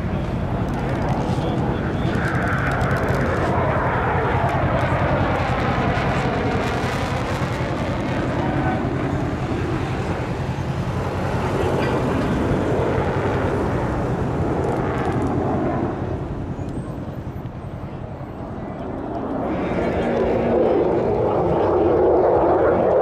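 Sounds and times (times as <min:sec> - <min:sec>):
jet roar overhead: 0:00.0 - 0:23.0.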